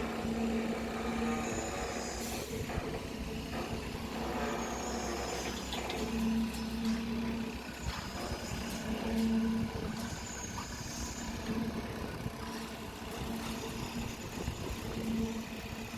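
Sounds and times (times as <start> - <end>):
machinery rumble with pitched drone: 0.0 - 15.9.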